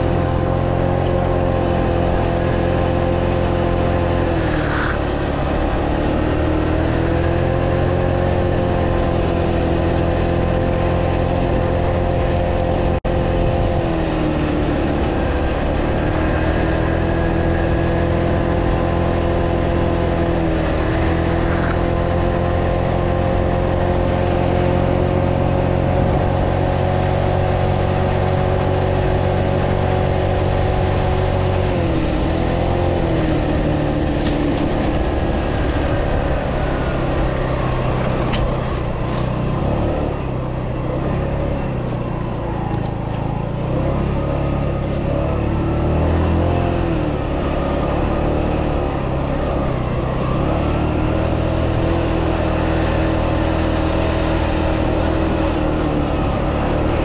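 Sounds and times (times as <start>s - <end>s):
scooter engine running: 0.0s - 57.0s
wind and road noise: 0.0s - 57.0s.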